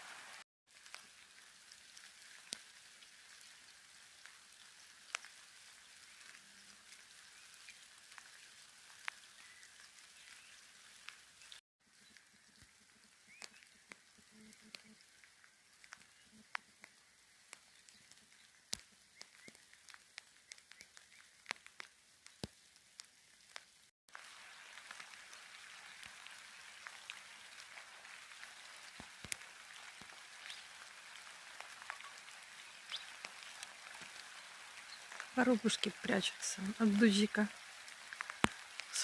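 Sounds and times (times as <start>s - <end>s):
rain hiss: 0.0s - 39.0s
raindrops tapping: 0.8s - 39.0s.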